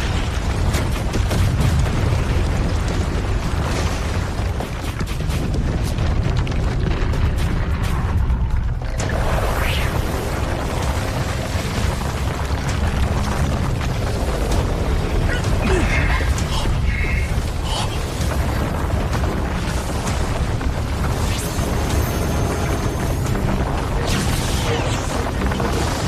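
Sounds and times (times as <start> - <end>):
dramatic background music: 0.0 - 26.0
mountain collapsing rumble: 0.0 - 26.0.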